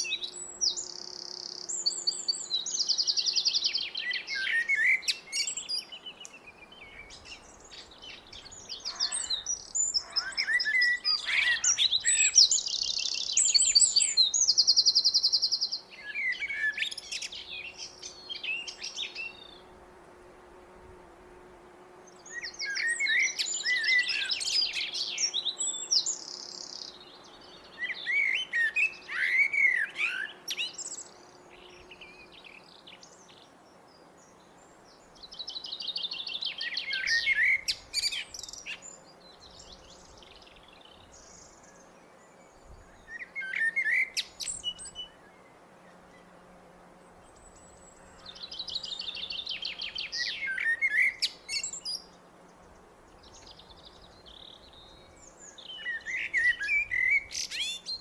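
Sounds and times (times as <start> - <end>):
blackbird singing: 0.0 - 19.6, 22.1 - 33.5, 34.2 - 45.6, 47.4 - 52.2, 53.1 - 58.0.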